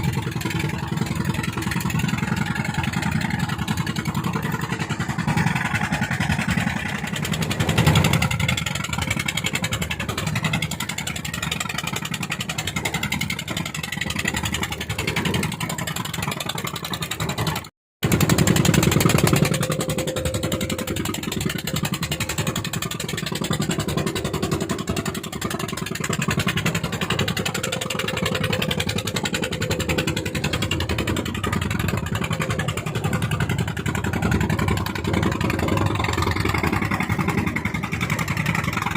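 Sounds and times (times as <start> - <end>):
boat engine running at full throttle: 0.0 - 38.9.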